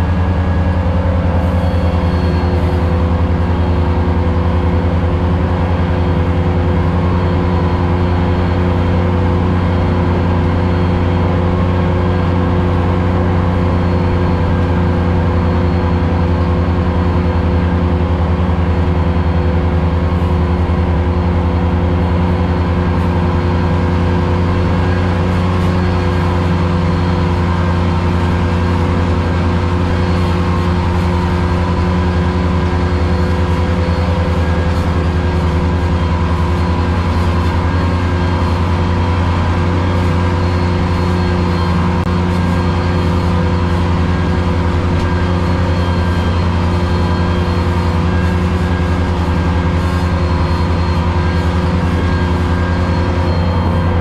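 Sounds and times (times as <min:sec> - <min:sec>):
tractor engine drone: 0:00.0 - 0:54.0.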